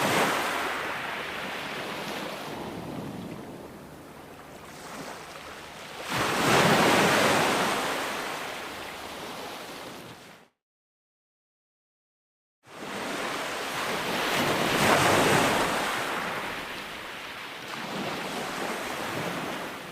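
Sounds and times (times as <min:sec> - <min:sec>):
ocean surf on beach: 0:00.0 - 0:10.4, 0:12.7 - 0:19.9.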